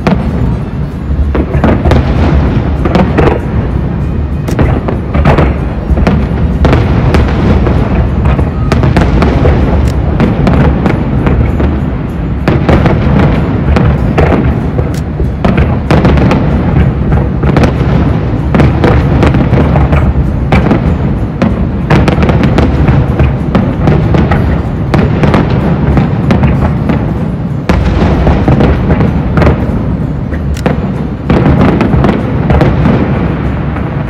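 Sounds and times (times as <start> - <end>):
firework bursts banging: 0.0 - 34.0.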